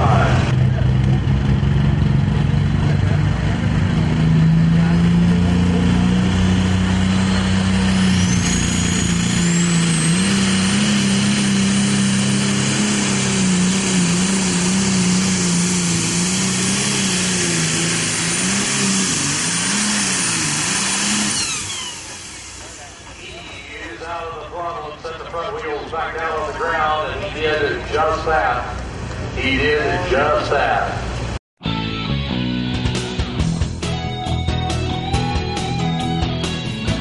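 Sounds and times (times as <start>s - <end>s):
diesel tractor engine at full throttle: 0.0s - 31.4s.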